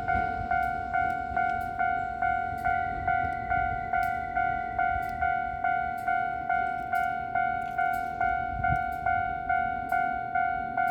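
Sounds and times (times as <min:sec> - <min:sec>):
level-crossing warning bell dinging: 0:00.0 - 0:10.9.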